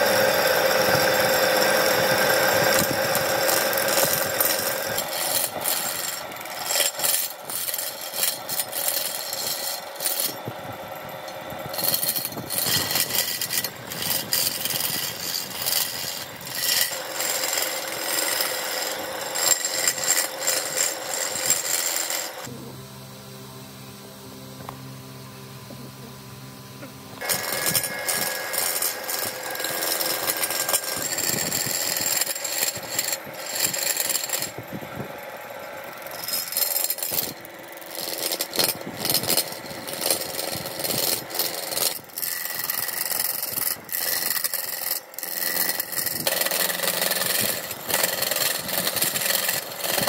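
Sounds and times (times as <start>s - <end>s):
chisel scraping wood on lathe: 0.0s - 22.5s, 27.2s - 50.0s
lathe running: 0.0s - 50.0s.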